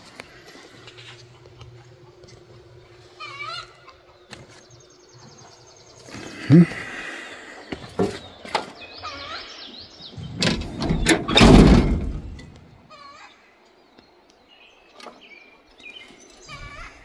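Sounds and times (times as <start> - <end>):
birds chirping and singing: 2.4 - 13.4, 14.0 - 17.0.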